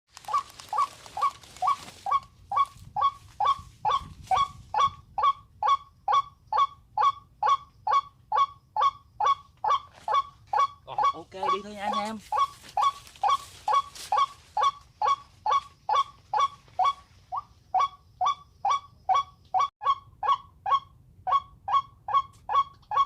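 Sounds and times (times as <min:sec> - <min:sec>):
bird calling with honking notes: 0:00.3 - 0:23.0.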